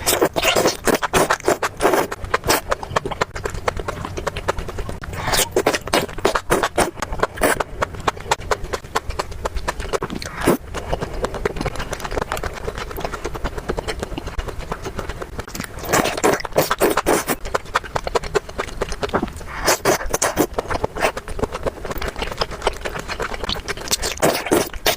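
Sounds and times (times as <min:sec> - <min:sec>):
chewing with wet mouth clicks: 0:00.0 - 0:24.9.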